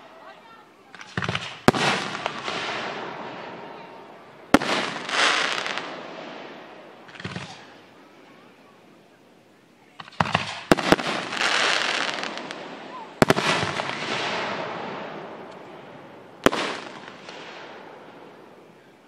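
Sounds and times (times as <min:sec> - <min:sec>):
fireworks crackling hiss: 0:00.0 - 0:19.0
fireworks bursting with bangs: 0:00.8 - 0:08.5, 0:09.8 - 0:19.0.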